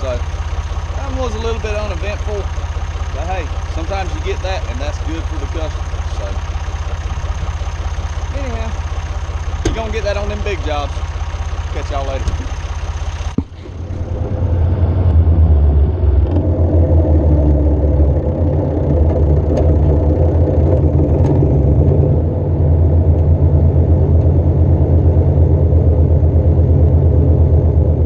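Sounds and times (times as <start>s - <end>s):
tractor diesel engine throbbing: 0.0s - 28.0s.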